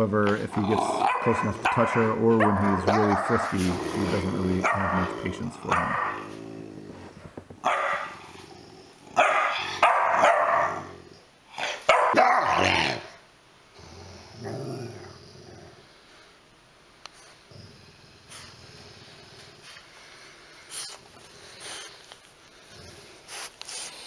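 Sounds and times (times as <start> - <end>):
dogs barking and growling: 0.3 - 16.2, 17.4 - 24.0.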